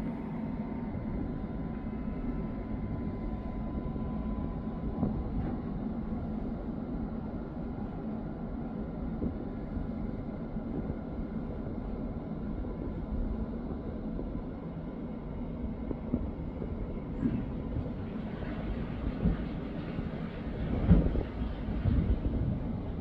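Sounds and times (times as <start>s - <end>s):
faint hum: 0.0s - 23.0s
low outdoor rumble: 0.0s - 23.0s.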